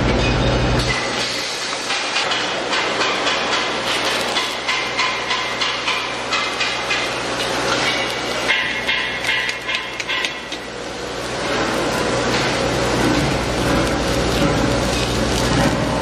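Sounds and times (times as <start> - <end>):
low machine hum: 0.0 - 16.0
machinery clattering: 0.0 - 16.0.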